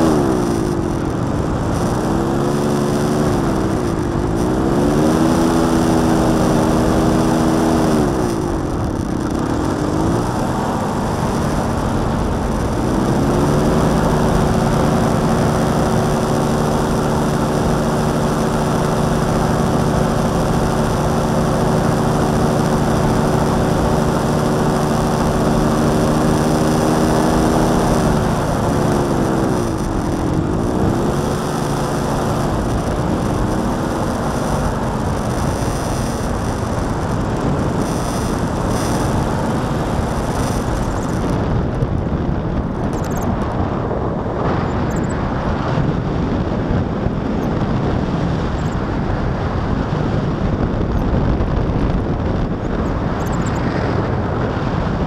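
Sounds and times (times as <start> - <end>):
engine and propeller running: 0.0 - 55.0.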